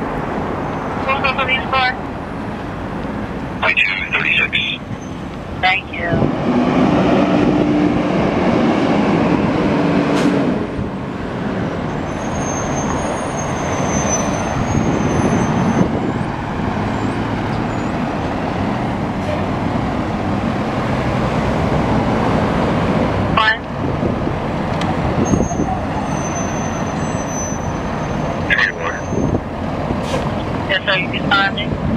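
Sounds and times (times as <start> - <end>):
city street traffic: 0.0 - 31.9
fire engine diesel engine: 0.0 - 31.9.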